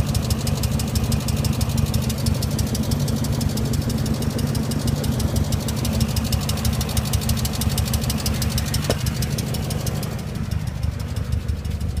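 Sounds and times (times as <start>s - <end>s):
car engine idling: 0.0s - 12.0s
fast even engine knock: 0.0s - 12.0s.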